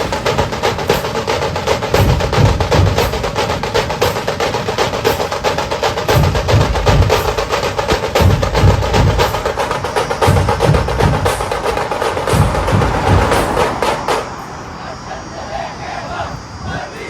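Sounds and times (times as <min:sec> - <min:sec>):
fast percussion music: 0:00.0 - 0:14.6.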